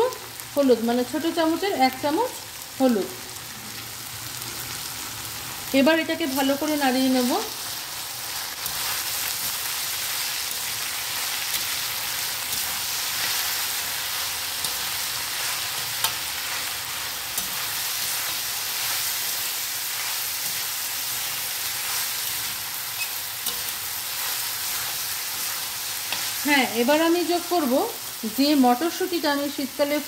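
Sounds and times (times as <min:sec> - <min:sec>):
vegetables sizzling in oil: 0:00.0 - 0:30.0.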